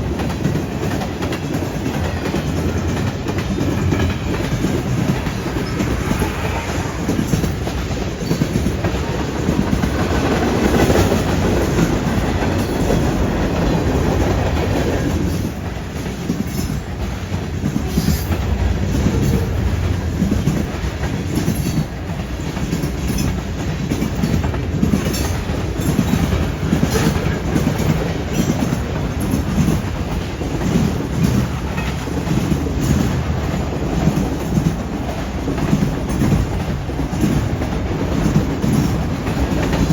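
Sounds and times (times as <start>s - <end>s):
freight train rumble: 0.0s - 39.9s
train wheels clacking: 0.0s - 39.9s.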